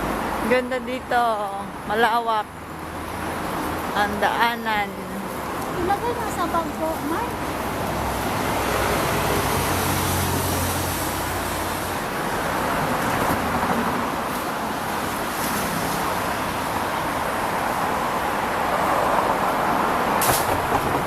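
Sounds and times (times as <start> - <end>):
passing vehicle engine hum: 0.0 - 21.0
road traffic noise: 0.0 - 21.0.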